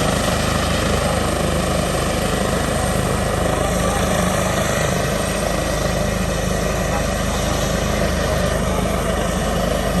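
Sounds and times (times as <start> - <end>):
helicopter rotor and turbine: 0.0 - 10.0.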